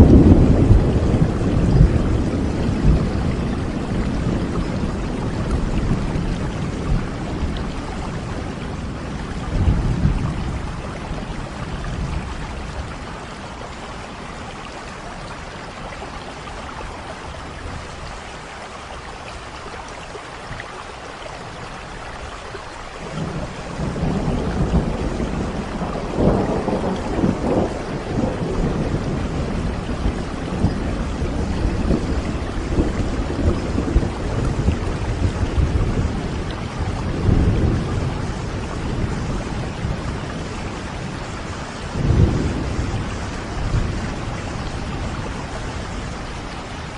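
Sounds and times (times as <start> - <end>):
thunder rumbling: 0.0 - 18.2, 23.0 - 46.9
steady rain falling: 0.0 - 46.9.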